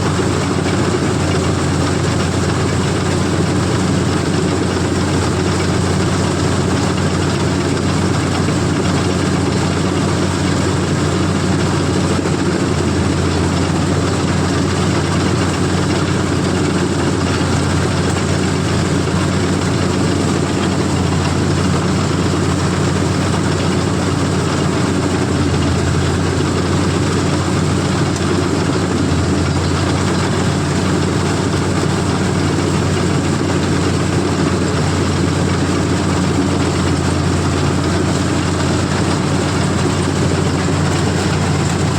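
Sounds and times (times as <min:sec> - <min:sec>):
combine harvester engine humming: 0:00.0 - 0:41.9.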